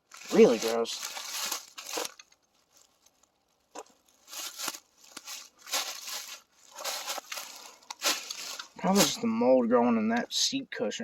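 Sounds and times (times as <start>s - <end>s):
footsteps crunching through dry brush: 0.0s - 9.4s.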